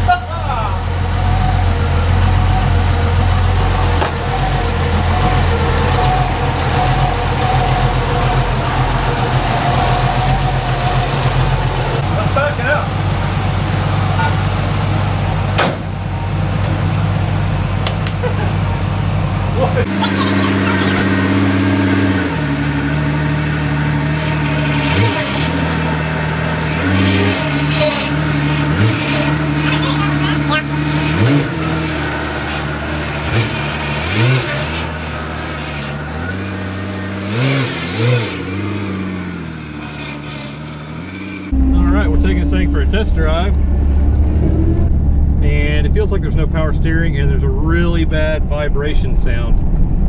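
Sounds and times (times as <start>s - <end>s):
car engine running steadily: 0.0s - 50.0s.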